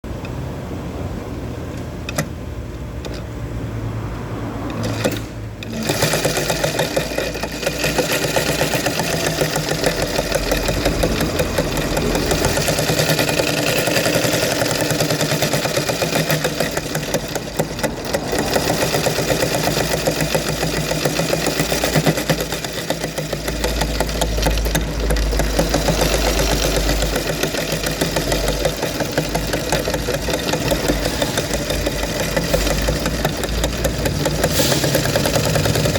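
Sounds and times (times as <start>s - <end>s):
sewing machine stitching: 4.6s - 35.9s.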